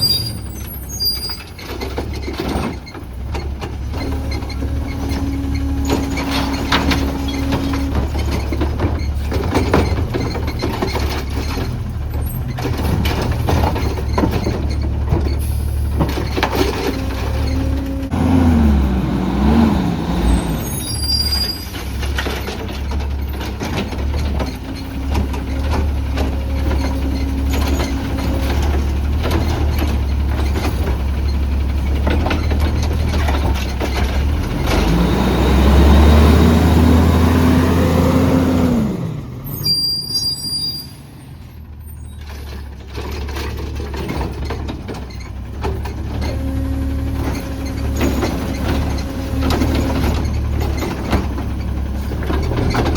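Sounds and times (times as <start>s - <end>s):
garbage truck engine revving: 0.0s - 52.9s.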